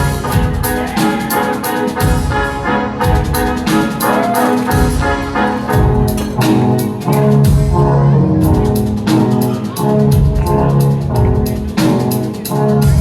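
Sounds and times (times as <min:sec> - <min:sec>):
bass: 0:00.0 - 0:13.0
drums: 0:00.0 - 0:13.0.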